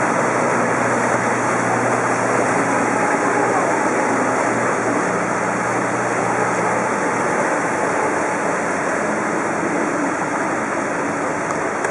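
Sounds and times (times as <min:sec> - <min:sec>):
faint low engine hum: 0:00.0 - 0:11.9
water churning in boat wake: 0:00.0 - 0:11.9.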